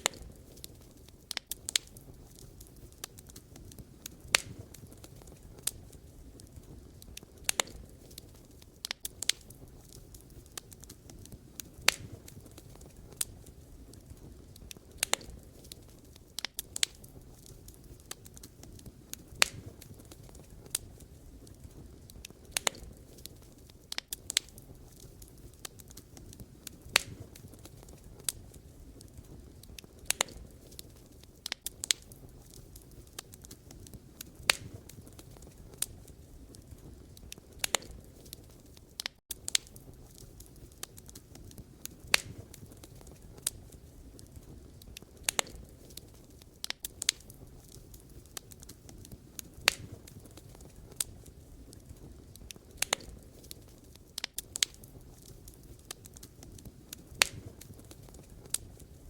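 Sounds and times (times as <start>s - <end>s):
burning logs popping: 0.0s - 59.0s
low rumble of flames: 0.0s - 59.0s.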